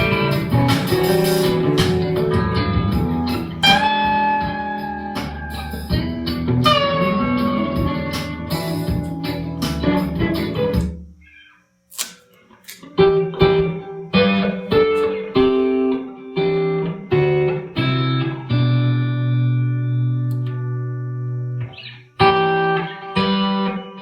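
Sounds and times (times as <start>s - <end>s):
electric guitar picked notes: 0.0s - 10.9s, 13.0s - 24.0s.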